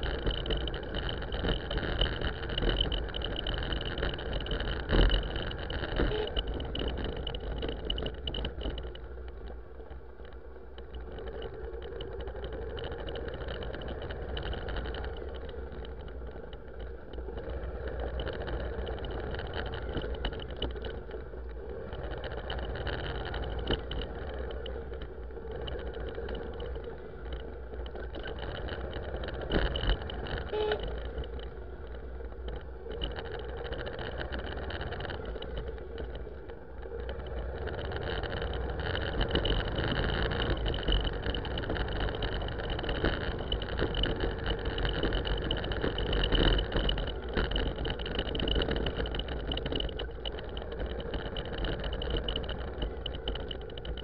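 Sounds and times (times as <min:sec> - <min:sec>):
constant high whine: 0:00.0 - 0:54.0
road noise on wet lane: 0:00.0 - 0:54.0
vehicle engine running: 0:00.0 - 0:54.0.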